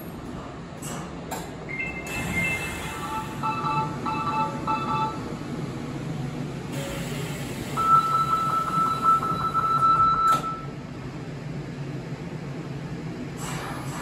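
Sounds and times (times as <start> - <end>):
train humming at platform: 0.0 - 14.0.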